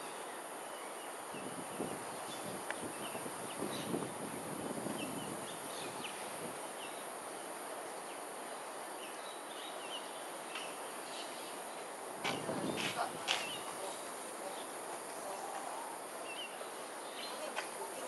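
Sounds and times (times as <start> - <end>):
background hiss: 0.0 - 18.0.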